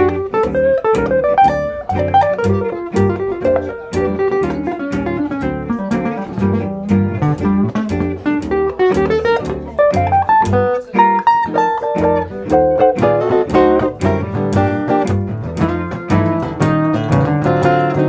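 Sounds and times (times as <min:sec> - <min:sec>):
acoustic guitar solo line: 0:00.0 - 0:18.0
double bass: 0:00.0 - 0:18.0
strummed guitar rhythm: 0:00.0 - 0:18.0.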